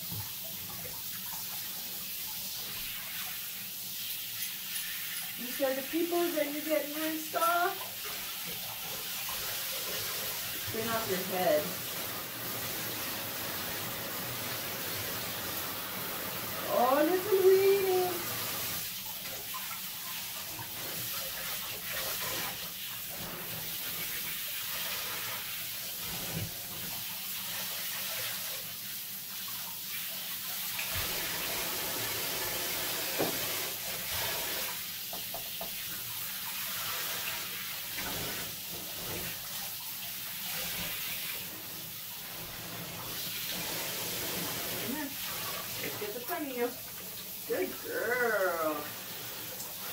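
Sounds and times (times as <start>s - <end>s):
shower spray splashing: 0.0s - 49.9s.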